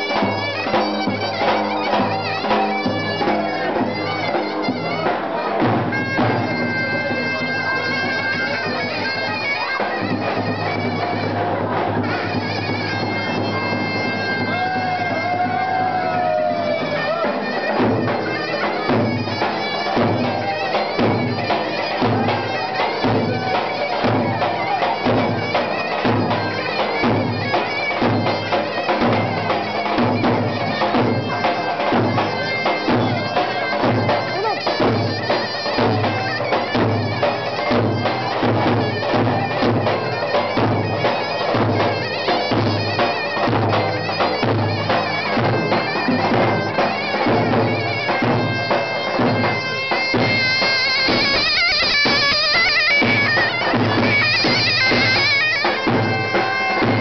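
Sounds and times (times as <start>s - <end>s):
drum beating dance rhythm: 0.0s - 57.0s
reedy wind instrument melody: 0.0s - 57.0s.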